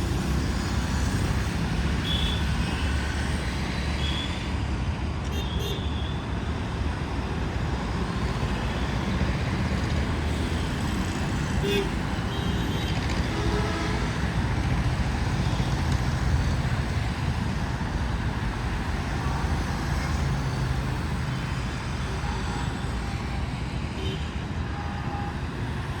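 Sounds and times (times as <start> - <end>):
city road traffic rumble: 0.0 - 26.0.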